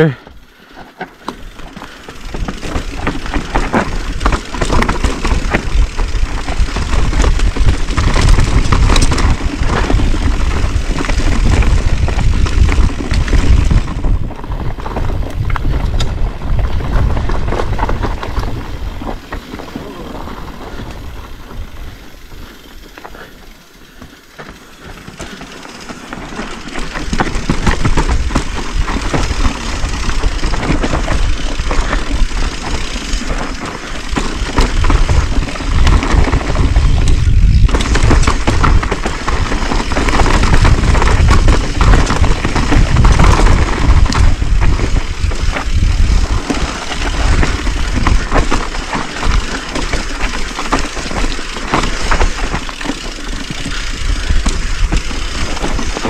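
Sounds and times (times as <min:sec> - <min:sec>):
bike rattling over bumps: 0:00.0 - 0:56.0
tyres crunching over dirt: 0:00.0 - 0:56.0
wind rumbling on microphone: 0:01.5 - 0:22.5, 0:26.4 - 0:56.0.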